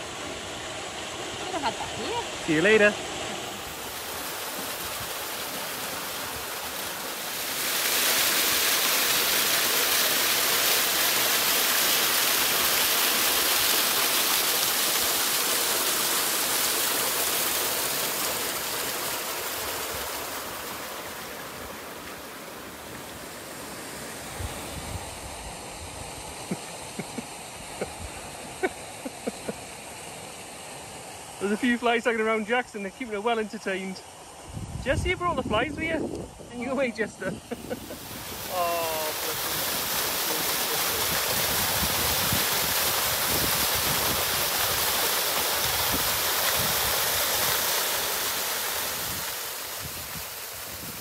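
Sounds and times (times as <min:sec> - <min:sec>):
waterfall rushing: 0:00.0 - 0:34.4, 0:36.5 - 0:51.0.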